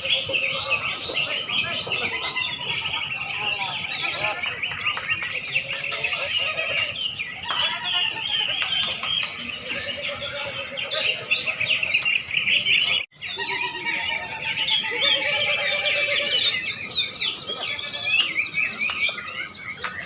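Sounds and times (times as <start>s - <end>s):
many songbirds singing: 0.0s - 20.0s.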